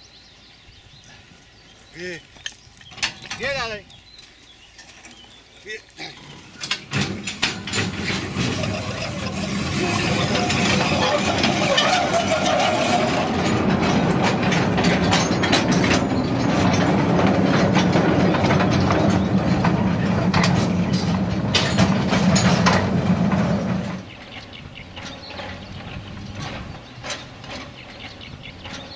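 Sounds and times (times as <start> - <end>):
steel wagons rattling and clanking: 1.9 - 28.9
wheels and couplings knocking: 2.3 - 5.4, 6.2 - 28.9.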